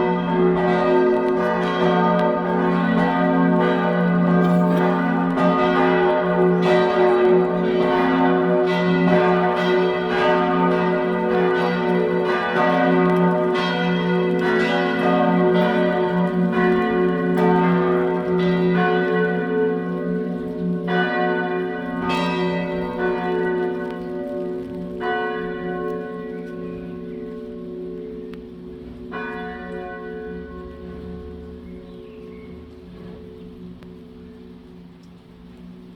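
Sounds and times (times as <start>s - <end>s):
church bells pealing: 0.0s - 35.9s.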